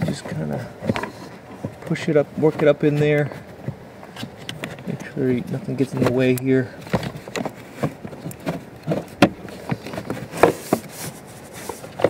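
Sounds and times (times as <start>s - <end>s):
blower fan knocking against housing: 0.0s - 10.8s.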